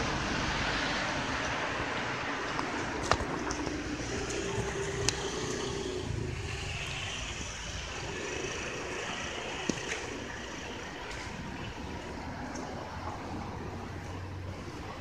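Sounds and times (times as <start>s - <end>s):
distant street traffic: 0.0s - 15.0s.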